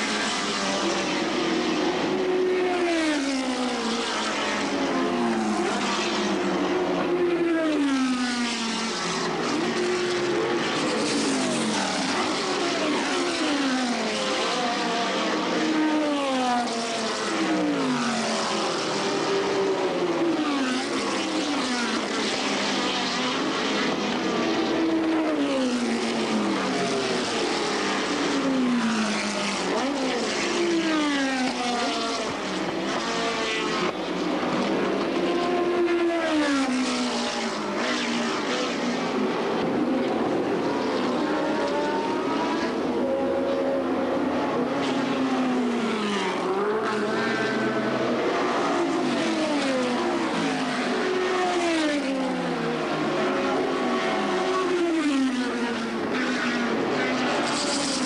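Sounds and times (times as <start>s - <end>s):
racing cars passing at speed: 0.0s - 58.0s.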